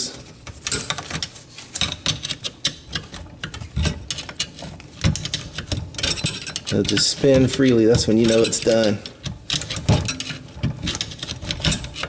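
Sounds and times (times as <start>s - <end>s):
screwdriver clicking and scraping metal: 0.6s - 12.0s.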